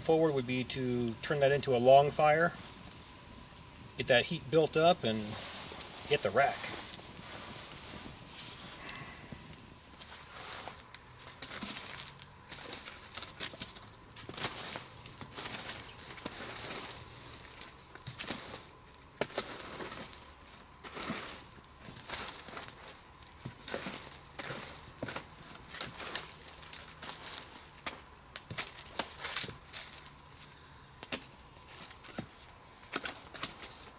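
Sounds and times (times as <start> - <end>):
campfire crackling and popping: 0.0 - 33.9
fire hissing: 0.0 - 33.9
wood sticks knocking and scraping: 4.8 - 33.9.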